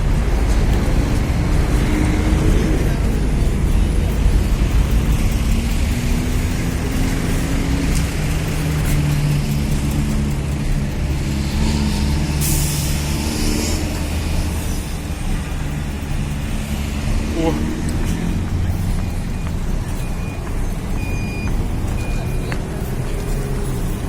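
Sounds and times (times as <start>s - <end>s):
city street traffic: 0.0s - 24.0s
vehicle engine running close by: 0.0s - 24.0s.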